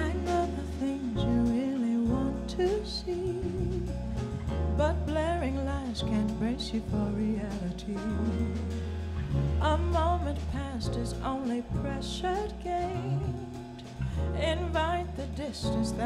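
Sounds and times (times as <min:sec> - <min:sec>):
woman singing: 0:00.0 - 0:04.0, 0:04.8 - 0:08.9, 0:09.6 - 0:16.0
drum kit: 0:00.0 - 0:16.0
electric bass: 0:00.0 - 0:16.0
piano: 0:00.0 - 0:16.0.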